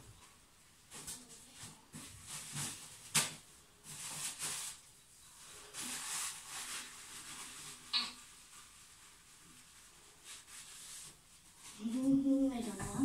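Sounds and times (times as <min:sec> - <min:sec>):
toilet paper rustling: 0:00.0 - 0:13.0.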